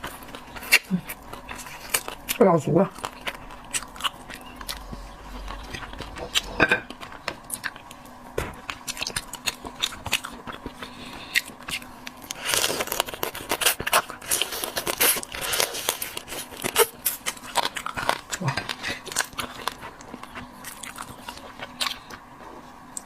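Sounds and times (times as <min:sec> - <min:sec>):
biting and chewing: 0:00.0 - 0:23.0.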